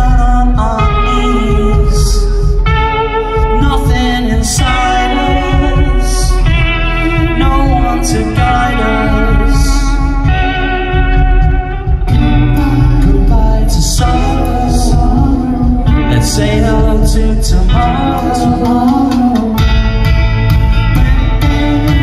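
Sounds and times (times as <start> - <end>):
bass guitar: 0.0 - 22.0
drums: 0.0 - 22.0
electric guitars: 0.0 - 22.0.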